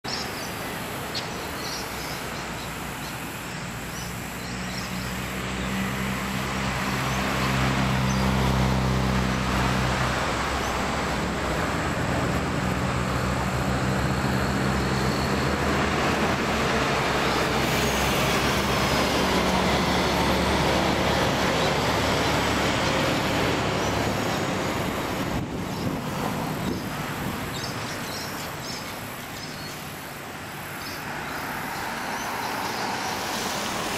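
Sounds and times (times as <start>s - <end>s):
traffic noise: 0.0s - 33.9s.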